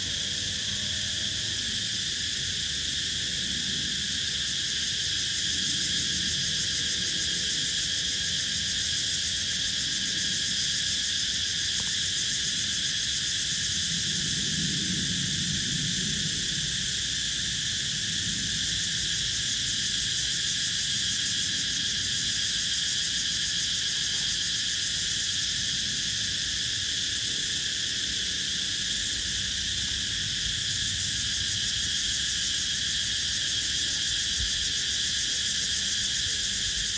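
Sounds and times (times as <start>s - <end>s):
insects chorus drone: 0.0s - 36.9s.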